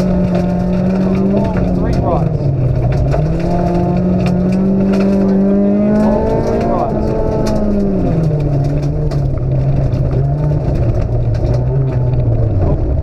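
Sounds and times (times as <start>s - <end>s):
car engine heard from inside: 0.0s - 13.0s
road rumble on gravel: 0.0s - 13.0s
stones ticking against car: 0.0s - 13.0s.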